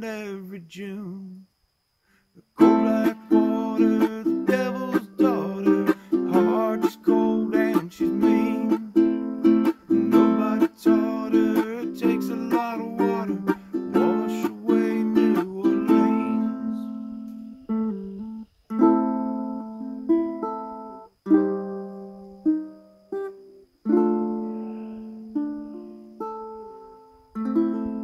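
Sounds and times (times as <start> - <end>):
ukulele strumming: 2.6 - 28.0.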